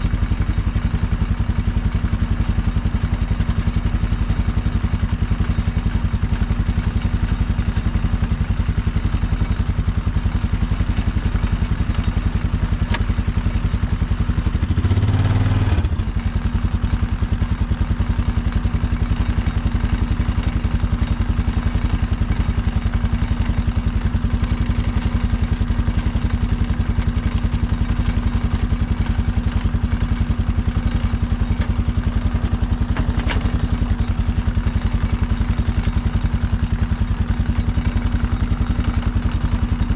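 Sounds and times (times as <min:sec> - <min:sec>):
large engine running steadily: 0:00.0 - 0:39.9.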